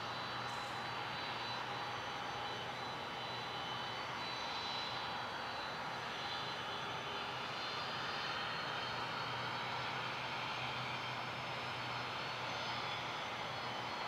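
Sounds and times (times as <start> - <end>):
jet engines taxiing: 0.0 - 14.0.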